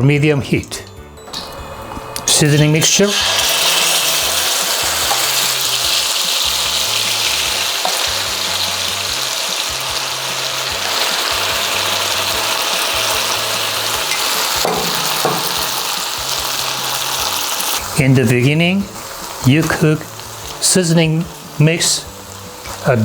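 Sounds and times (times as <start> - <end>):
paste sizzling in a frying pan: 1.4 - 23.0.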